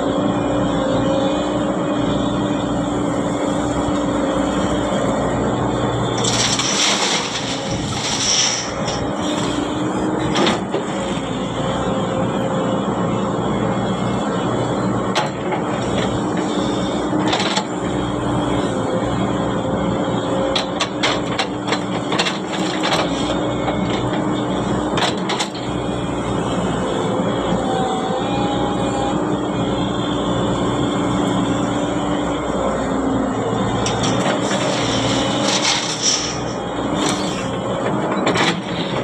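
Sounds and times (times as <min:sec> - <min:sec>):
excavator engine and hydraulics: 0:00.0 - 0:39.0.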